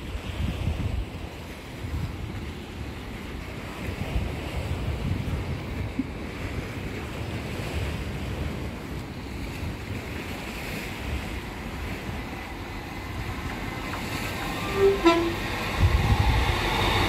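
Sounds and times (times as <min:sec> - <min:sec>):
waves washing against a wall: 0:00.0 - 0:17.0
wind buffeting microphone: 0:00.0 - 0:17.0.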